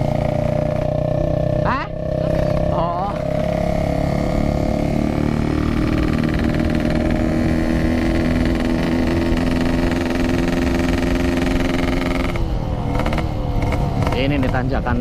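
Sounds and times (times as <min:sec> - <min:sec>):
raspy two-stroke motorcycle engine: 0:00.0 - 0:15.0.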